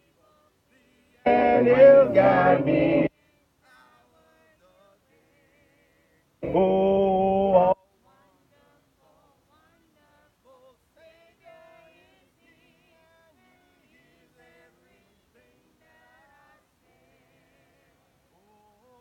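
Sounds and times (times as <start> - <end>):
faint choir singing a hymn: 0.0 - 19.0.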